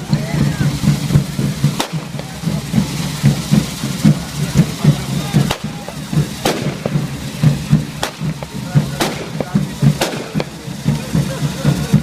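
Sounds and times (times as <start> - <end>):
crowd voices: 0.0 - 12.0
firecracker bangs: 0.0 - 12.0
fizzing sparks: 0.0 - 12.0
low drumbeat: 0.0 - 12.0.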